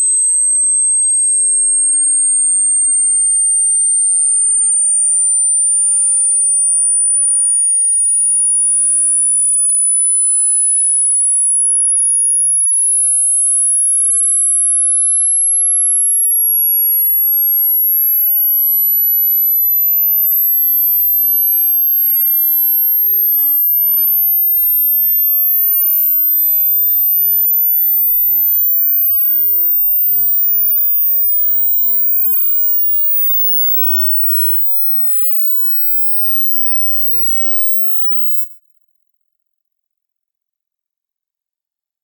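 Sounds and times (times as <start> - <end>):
high-pitched sine test tone: 0.0 - 39.2.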